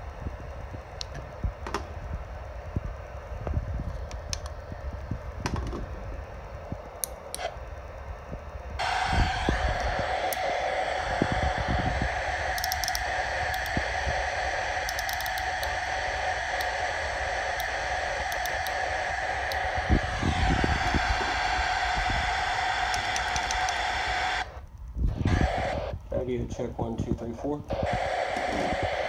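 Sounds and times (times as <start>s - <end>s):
steady radio tone over hiss: 0.0s - 29.0s.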